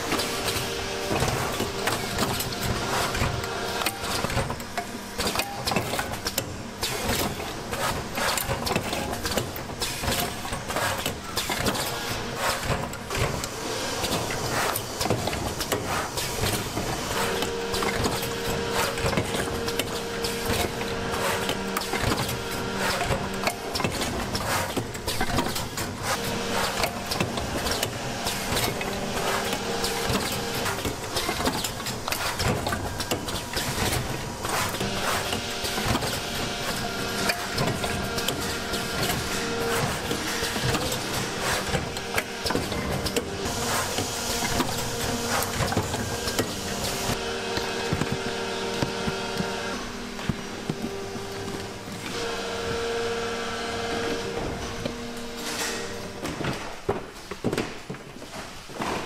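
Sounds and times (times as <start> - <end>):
rapid mechanical clicking and clatter: 0.0 - 52.3
machinery hum: 0.0 - 57.1.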